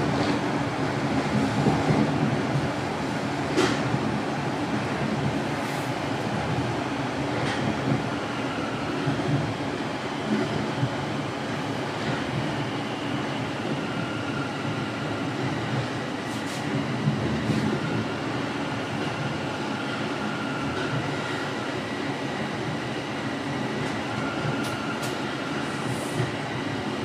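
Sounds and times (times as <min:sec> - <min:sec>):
subway train wheels rumbling: 0:00.0 - 0:27.0.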